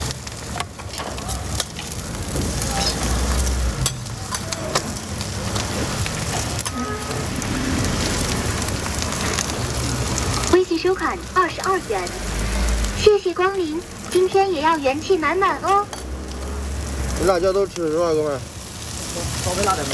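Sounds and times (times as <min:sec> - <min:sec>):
food sizzling on a hot pan: 0:00.0 - 0:19.9.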